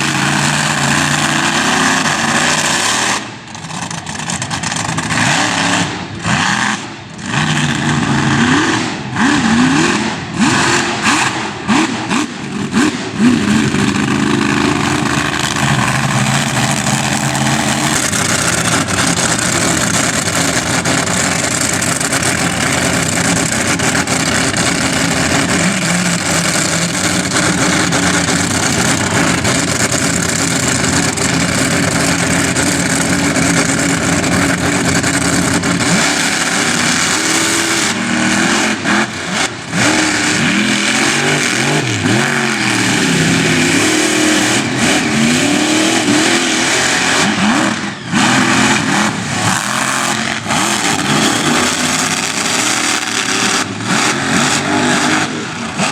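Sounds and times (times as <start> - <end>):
monster truck engine revving: 0.0 - 55.9.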